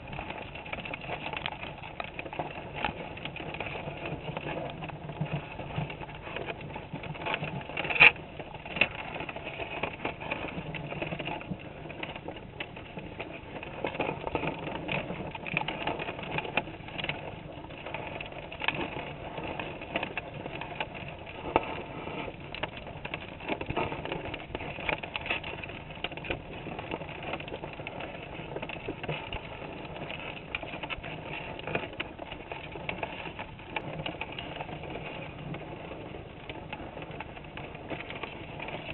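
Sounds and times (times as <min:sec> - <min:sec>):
crawdads clicking and scraping: 0:00.0 - 0:38.9.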